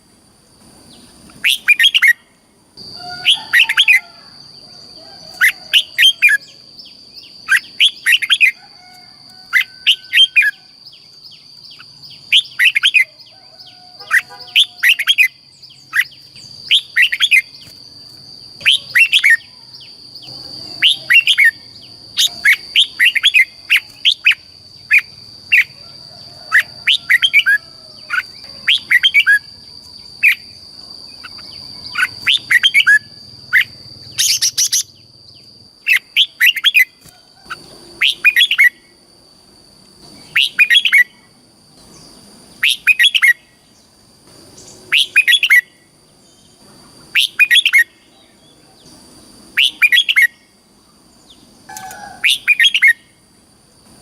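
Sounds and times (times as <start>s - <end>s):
steady high-pitched whine: 0.0s - 54.0s
bird chirping phrases: 0.8s - 8.6s, 9.5s - 25.8s, 26.5s - 39.0s, 40.0s - 53.2s.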